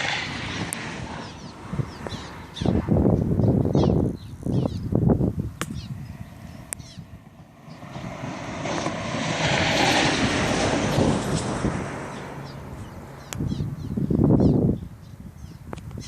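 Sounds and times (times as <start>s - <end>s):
aircraft engine passing overhead: 0.0s - 14.5s.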